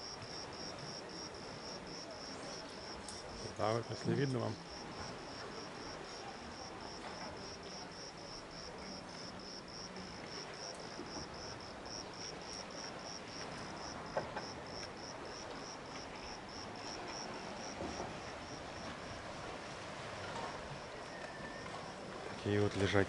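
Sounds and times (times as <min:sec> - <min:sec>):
insect chirping: 0:00.0 - 0:19.3
faint background hiss: 0:00.0 - 0:23.0.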